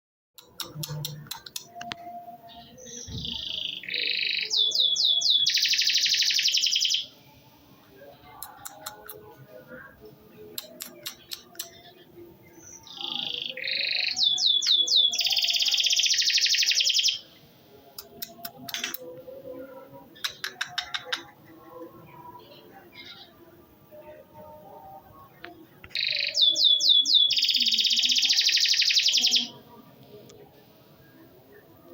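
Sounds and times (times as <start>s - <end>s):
canary singing: 0.4s - 7.4s, 8.1s - 30.5s.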